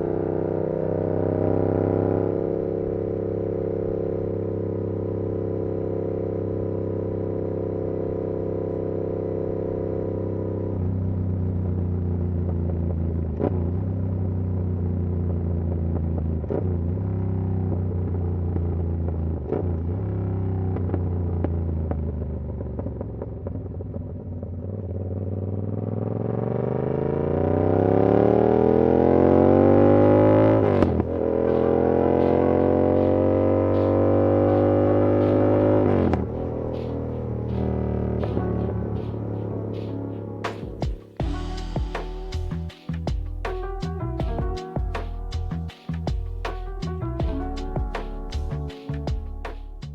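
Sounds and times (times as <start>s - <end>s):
motorcycle engine running: 0.0s - 19.3s, 19.9s - 49.9s.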